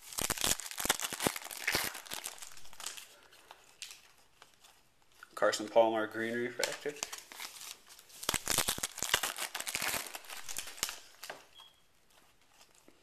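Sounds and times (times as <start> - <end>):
plastic wrapper crinkling and tearing: 0.0 - 5.7, 6.4 - 13.0.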